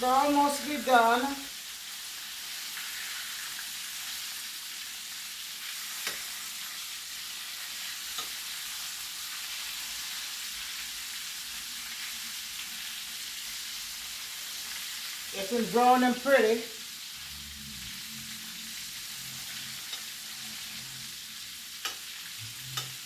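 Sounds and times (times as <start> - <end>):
chicken sizzling in frying oil: 0.0 - 23.0.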